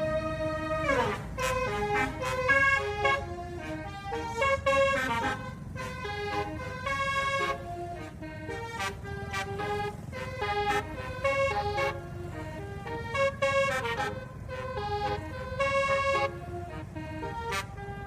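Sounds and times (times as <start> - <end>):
multi-tone bus air horn tune: 0.0 - 18.0.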